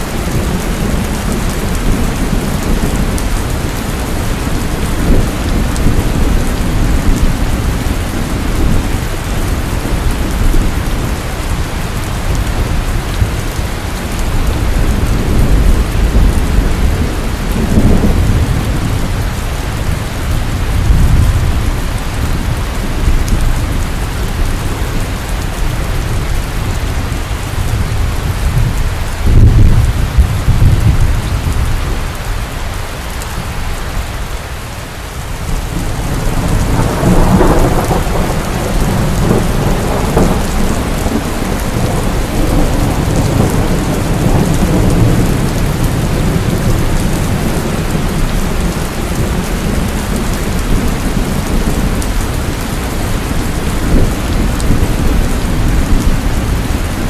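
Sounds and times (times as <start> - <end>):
rolling thunder: 0.0 - 32.3, 35.4 - 57.0
heavy rain: 0.0 - 57.0.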